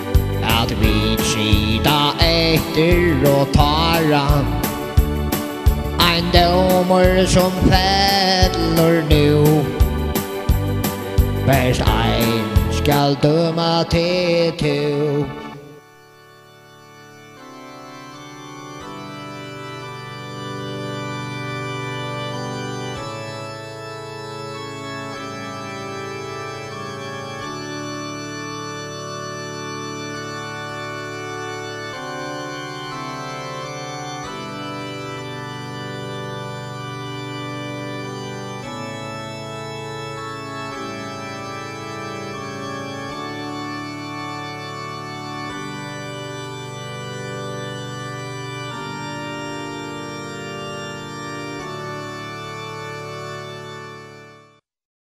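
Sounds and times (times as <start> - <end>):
sustained organ chords: 0.0 - 54.6.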